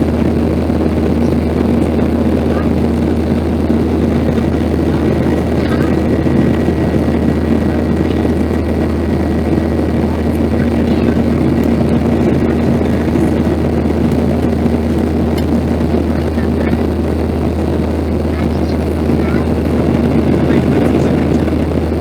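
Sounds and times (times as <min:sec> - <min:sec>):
constant low hum: 0:00.0 - 0:22.0
jet engine and airflow rush: 0:00.0 - 0:22.0.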